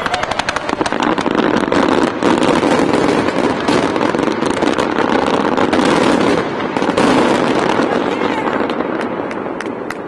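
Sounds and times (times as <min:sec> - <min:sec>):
fireworks barrage: 0:00.0 - 0:10.0.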